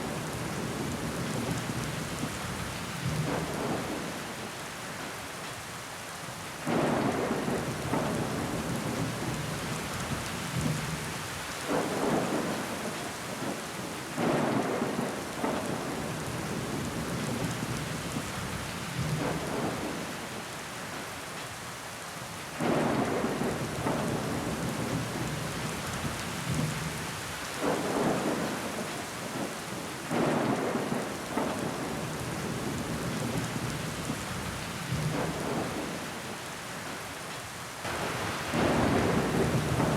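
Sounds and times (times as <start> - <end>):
rain pattering on window: 0.0 - 5.6, 6.4 - 21.6, 22.3 - 39.9.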